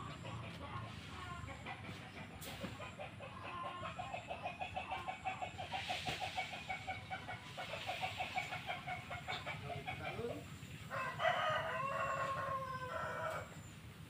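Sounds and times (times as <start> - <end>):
chicken clucking: 0.0 - 13.8.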